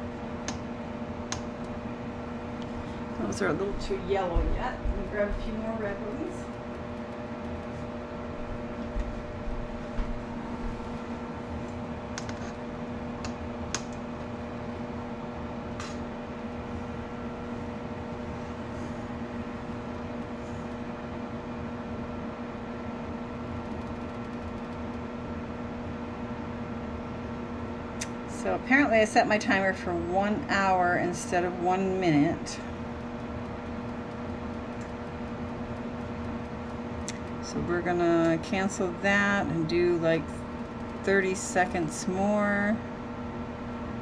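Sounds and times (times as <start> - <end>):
water at rolling boil: 0.0 - 43.8
mains-like kitchen hum: 0.0 - 44.0.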